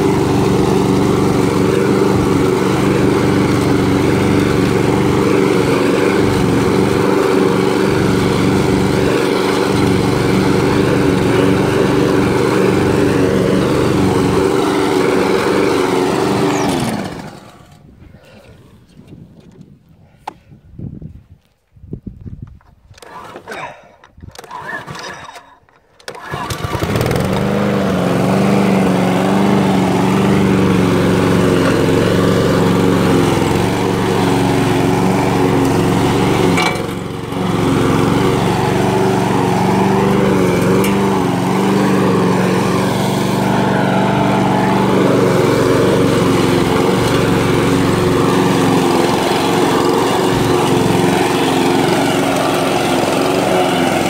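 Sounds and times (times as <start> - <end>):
lawn mower engine running: 0.0 - 17.9, 23.0 - 54.0.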